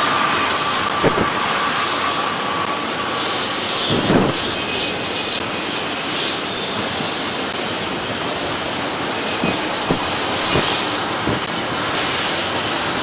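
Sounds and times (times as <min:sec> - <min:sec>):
high wheel squeal: 0:00.0 - 0:12.4
freight train rumbling past: 0:00.0 - 0:13.0.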